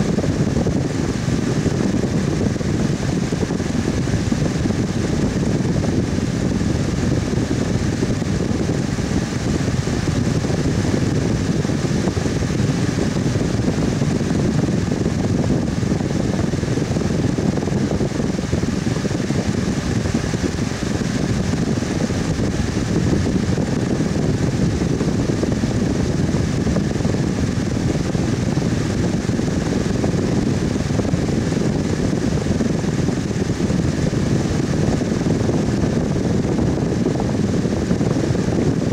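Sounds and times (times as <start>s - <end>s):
electric fan whooshing: 0.0s - 38.9s.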